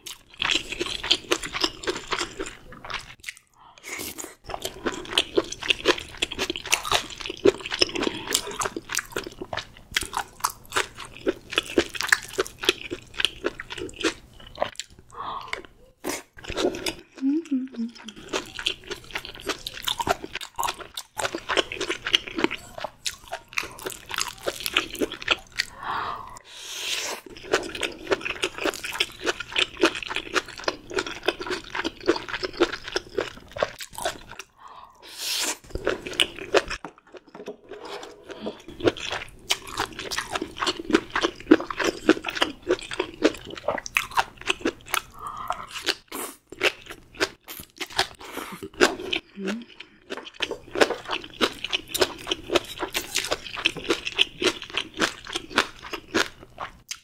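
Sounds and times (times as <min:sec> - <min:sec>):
crunchy chewing: 0:00.0 - 0:17.2, 0:18.0 - 0:25.8, 0:27.1 - 0:34.5, 0:35.4 - 0:57.0.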